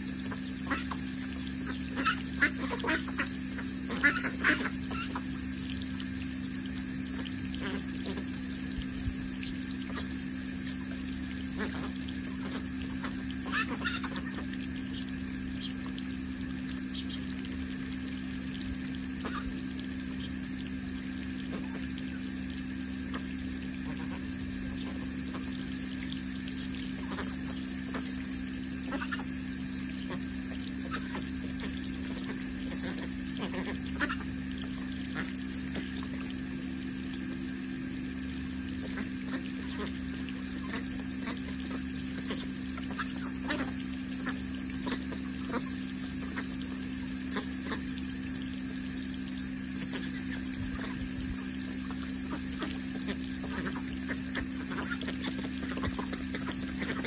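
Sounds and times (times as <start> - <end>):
hose water pouring onto gravel: 0.0 - 29.1, 29.7 - 47.8
ducks dabbling in water: 0.1 - 57.0
low hum: 0.2 - 57.0.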